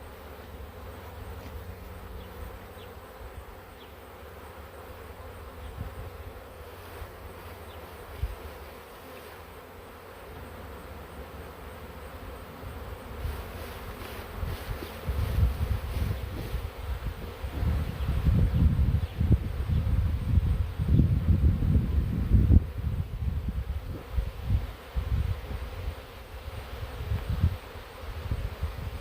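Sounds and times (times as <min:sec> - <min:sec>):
bee swarm buzzing: 0:00.0 - 0:29.0.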